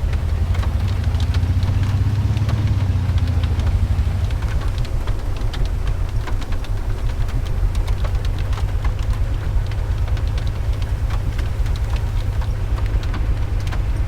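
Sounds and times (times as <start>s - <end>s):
raindrops tapping: 0.0s - 14.0s
vehicle rumble: 0.0s - 14.0s.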